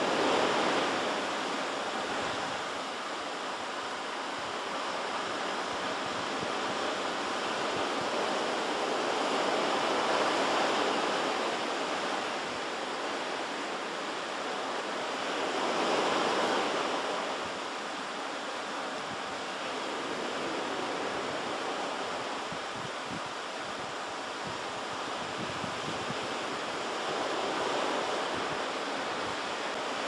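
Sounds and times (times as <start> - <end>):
ocean waves breaking on shore: 0.0 - 30.0.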